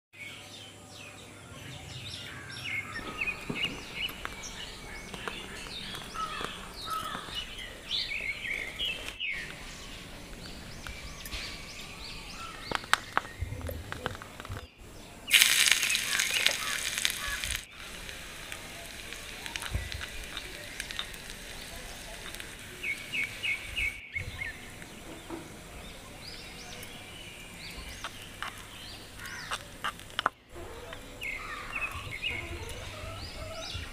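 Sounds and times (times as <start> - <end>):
small birds chirping: 0.2 - 33.9
loud steady hiss: 2.0 - 33.9.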